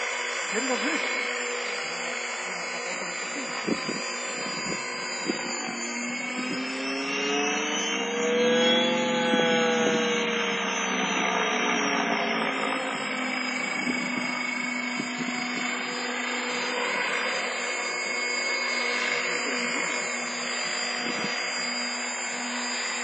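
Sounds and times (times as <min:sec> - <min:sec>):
model aircraft motor whine: 0:00.0 - 0:23.0.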